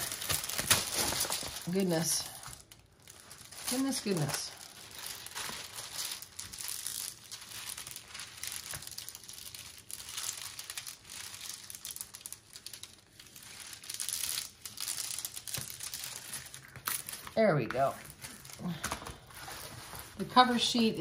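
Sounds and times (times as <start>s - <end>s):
plastic film crinkling and crackling: 0.0s - 21.0s.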